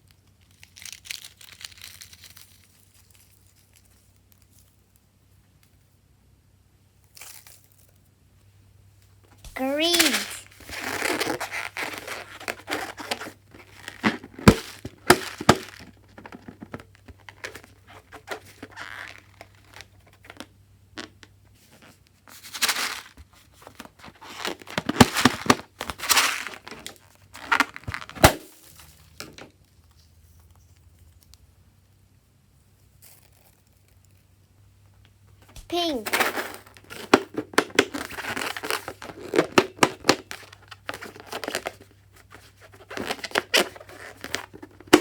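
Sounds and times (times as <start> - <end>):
crinkling and tearing handling noise: 0.0 - 5.1, 9.2 - 31.4, 35.4 - 45.0.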